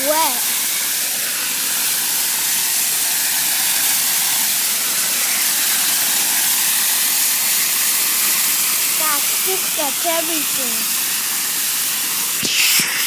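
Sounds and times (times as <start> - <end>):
water spraying with a hiss: 0.0 - 13.0.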